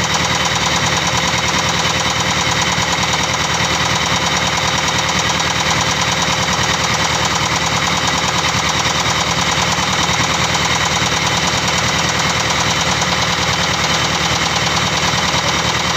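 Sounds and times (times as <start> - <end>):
diesel engine knocking: 0.0 - 15.9.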